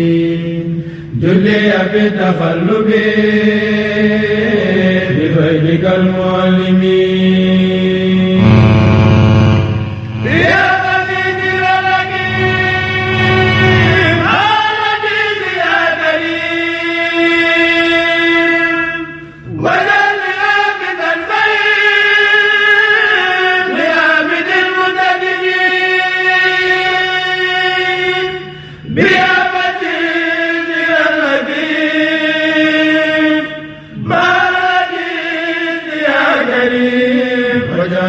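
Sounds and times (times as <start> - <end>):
choir chanting held notes: 1.4 - 38.0.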